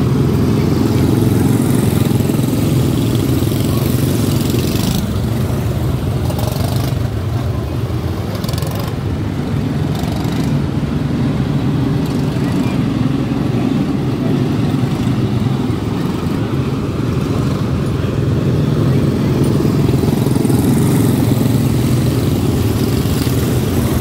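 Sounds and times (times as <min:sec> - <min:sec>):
drone of small race car engines: 0:00.0 - 0:24.0.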